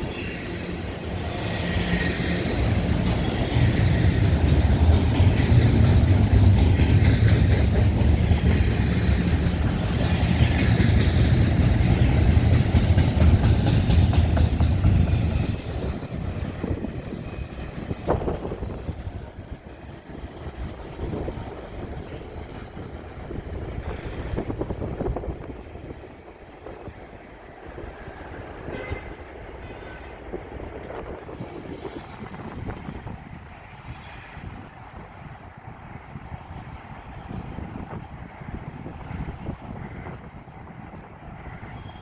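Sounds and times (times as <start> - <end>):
freight train rumbling past: 0.0 - 42.0
wheels rattling on rail: 0.0 - 42.0.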